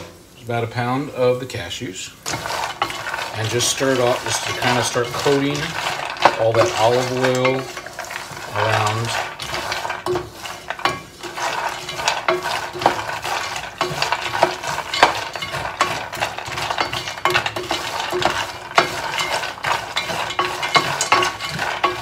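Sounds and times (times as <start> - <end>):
wooden spoon scraping pan: 2.2 - 22.0.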